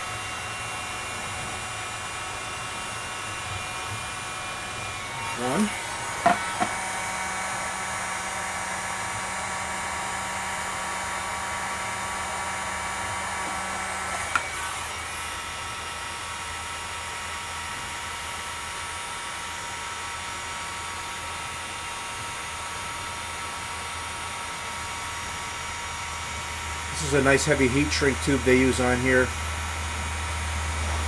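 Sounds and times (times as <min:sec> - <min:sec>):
heat gun blowing: 0:00.0 - 0:31.0.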